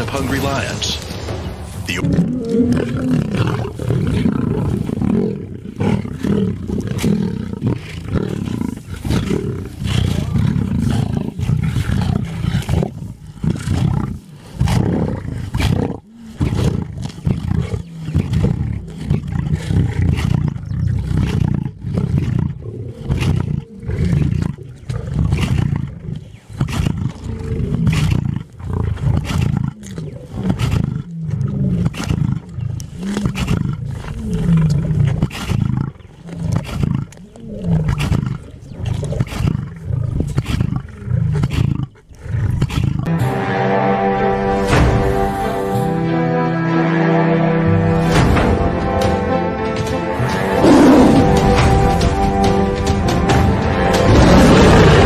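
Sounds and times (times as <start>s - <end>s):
lions growling: 1.9s - 43.1s, 47.5s - 55.0s.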